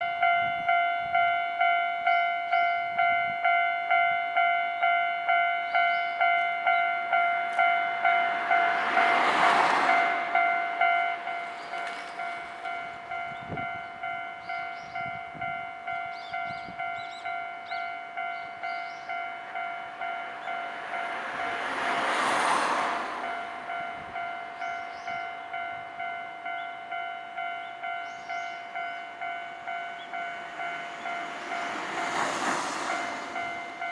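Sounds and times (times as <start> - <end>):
level-crossing warning bell: 0.0 - 33.9
train passing: 0.0 - 33.9.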